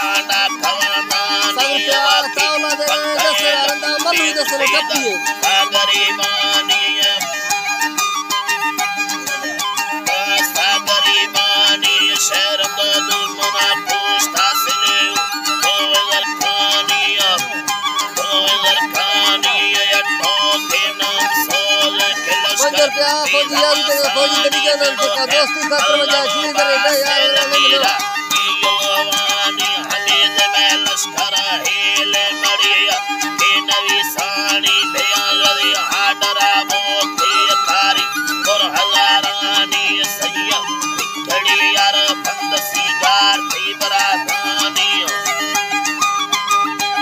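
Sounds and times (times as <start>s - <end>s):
man singing: 0.0s - 7.5s, 10.0s - 45.6s
long-necked lute playing: 0.0s - 47.0s
plucked string instrument: 0.0s - 47.0s
wooden flute melody: 0.0s - 47.0s.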